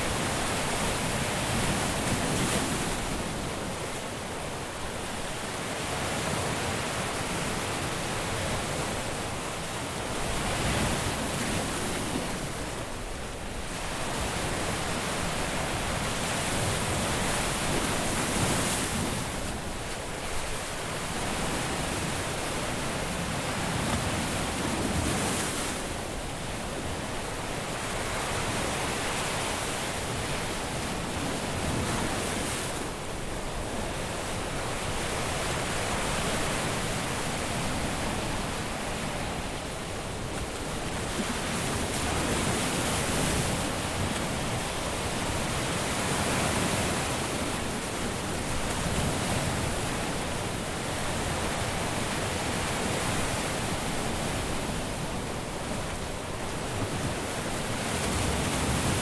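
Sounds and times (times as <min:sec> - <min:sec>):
surf washing on a beach: 0:00.0 - 0:59.0.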